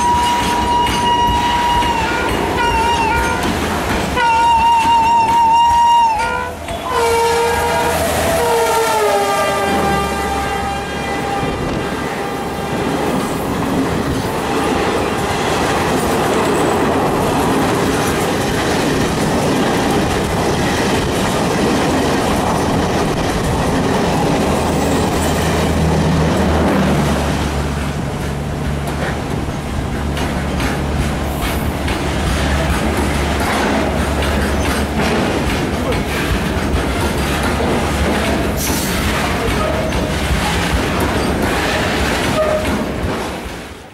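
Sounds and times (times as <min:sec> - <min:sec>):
train passing at speed: 0:00.0 - 0:43.9
wheels clacking over rail joints: 0:00.0 - 0:43.9.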